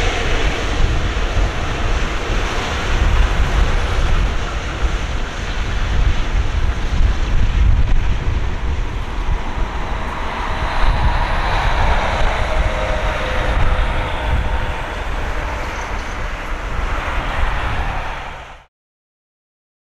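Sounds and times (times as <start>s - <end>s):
jet engine roar: 0.0s - 18.7s
wind on microphone: 0.0s - 18.7s.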